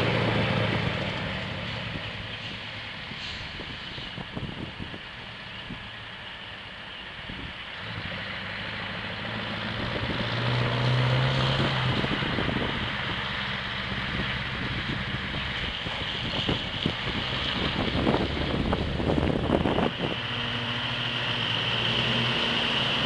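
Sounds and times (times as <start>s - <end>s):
truck engine pulling away: 0.0s - 23.0s.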